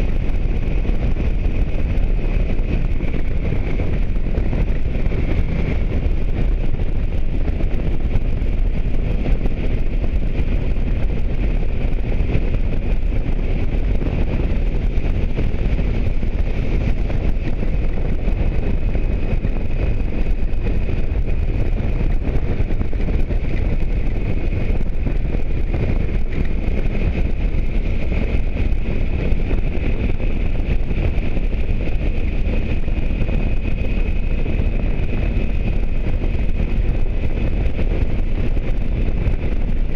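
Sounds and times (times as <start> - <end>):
motorcycle engine rumble: 0.0 - 39.9
wind rushing over microphone: 0.0 - 39.9.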